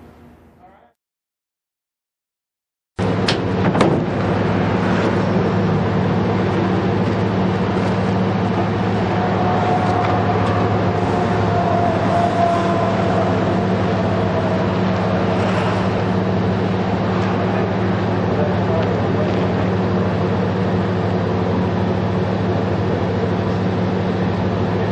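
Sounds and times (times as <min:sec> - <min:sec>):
inspection yoke humming: 0:03.0 - 0:24.9.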